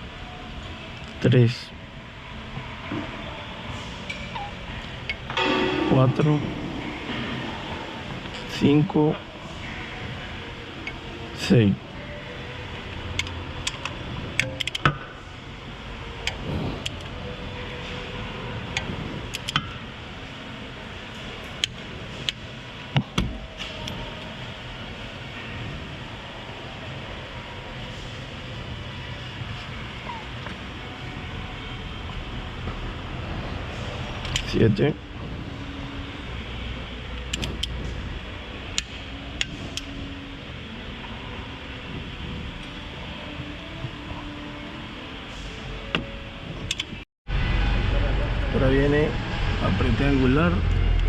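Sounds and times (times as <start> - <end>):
workshop hum: 0.0 - 51.0.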